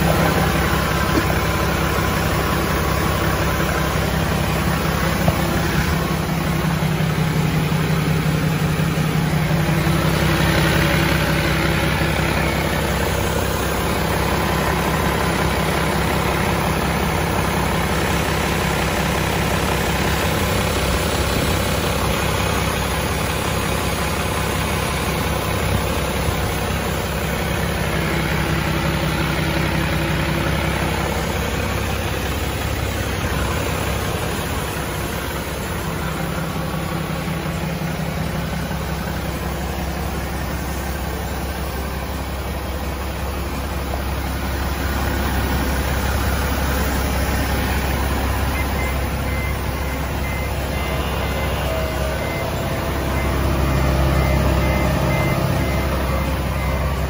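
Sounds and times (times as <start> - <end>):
truck diesel engine idling: 0.0 - 57.0.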